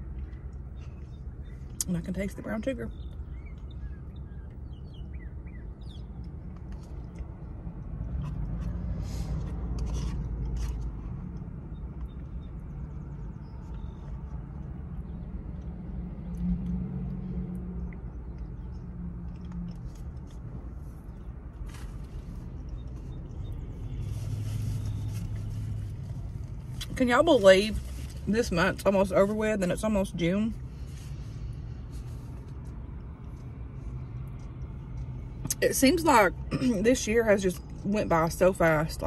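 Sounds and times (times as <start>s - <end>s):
low vehicle rumble: 0.0s - 39.0s.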